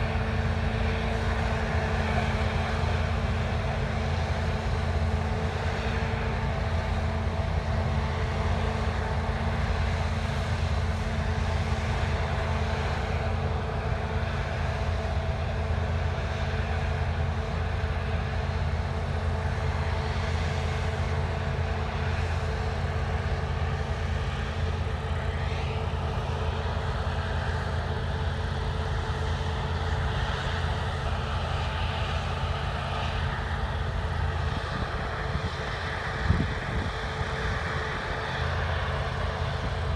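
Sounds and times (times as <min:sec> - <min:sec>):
diesel machinery engine hum: 0:00.0 - 0:39.9
steady whine: 0:00.0 - 0:39.9.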